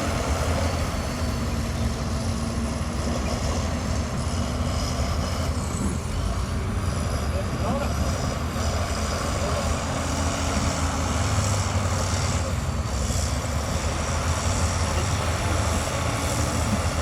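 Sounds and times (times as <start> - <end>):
heavy machinery diesel engine: 0.0 - 17.0.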